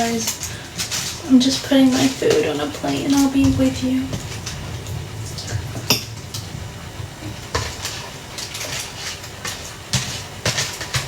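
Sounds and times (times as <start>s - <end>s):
utensil scraping and clinking: 0.0s - 6.6s, 7.2s - 11.0s
low steady hum: 0.0s - 11.0s.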